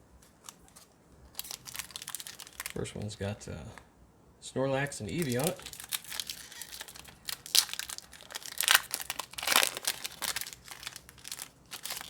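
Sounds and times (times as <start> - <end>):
foil wrapper crinkling and tearing: 0.2 - 3.2, 5.0 - 12.0.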